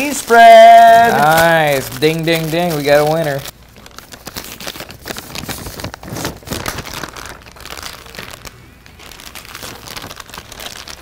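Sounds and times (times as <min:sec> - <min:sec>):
plastic pouches crinkling: 0:00.0 - 0:11.0.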